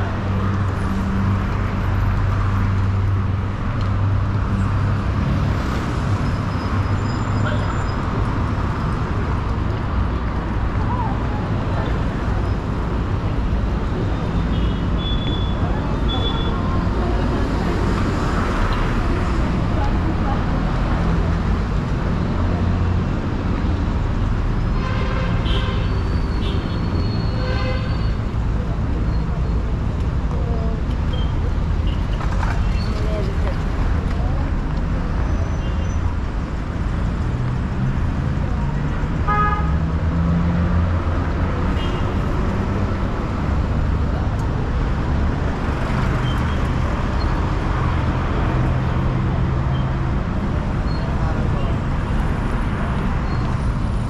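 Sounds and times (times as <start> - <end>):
road traffic hum: 0.0 - 54.0.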